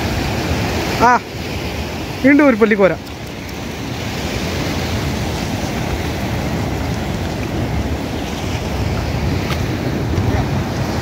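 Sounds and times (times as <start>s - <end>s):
sea surf: 0.0s - 11.0s
wind rumble on microphone: 0.0s - 11.0s.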